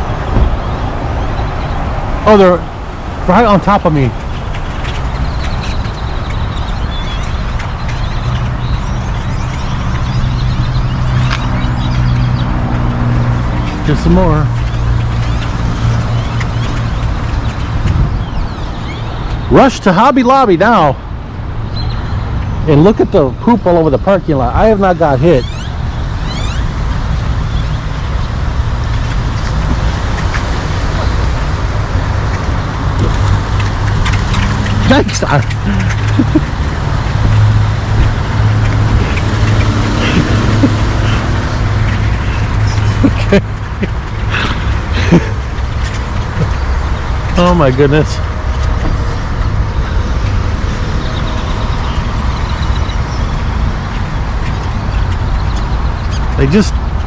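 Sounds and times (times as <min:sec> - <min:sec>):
flock of birds calling: 0:00.0 - 0:57.0
low rumble of traffic: 0:00.0 - 0:57.0.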